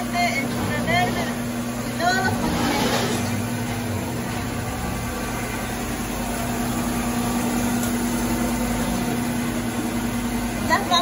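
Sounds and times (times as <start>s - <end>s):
electric motor hum: 0.0s - 11.0s.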